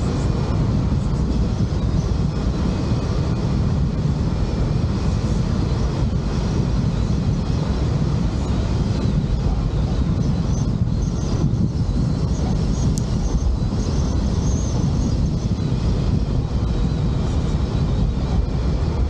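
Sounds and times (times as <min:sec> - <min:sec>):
vehicle wind and road noise: 0:00.0 - 0:19.0.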